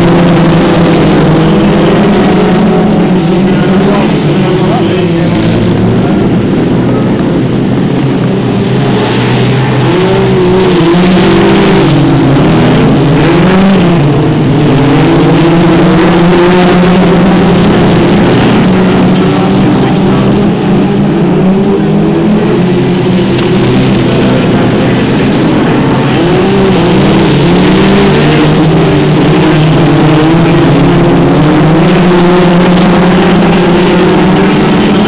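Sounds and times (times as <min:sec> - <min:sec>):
stock car engines racing: 0:00.0 - 0:35.0.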